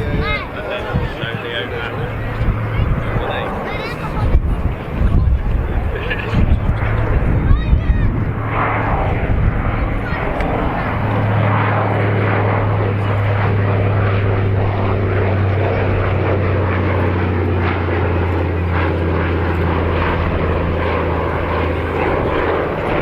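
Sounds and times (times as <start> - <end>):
propeller plane droning past: 0.0 - 23.0.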